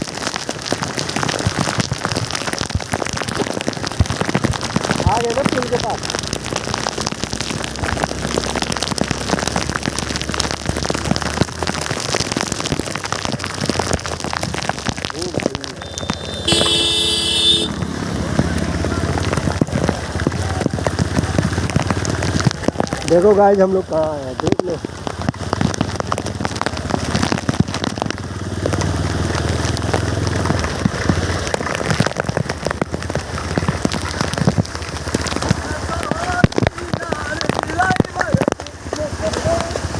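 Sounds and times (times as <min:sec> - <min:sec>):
heavy rain crackling: 0:00.0 - 0:39.9.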